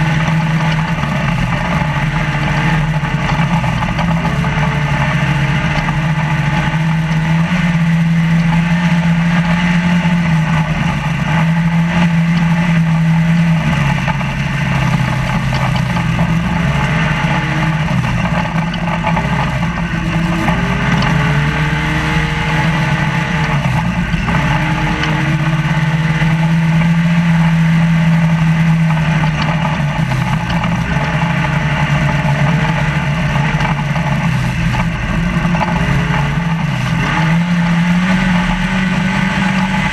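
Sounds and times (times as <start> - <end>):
road and rattle noise: 0.0 - 39.9
truck engine running hard: 0.0 - 39.9.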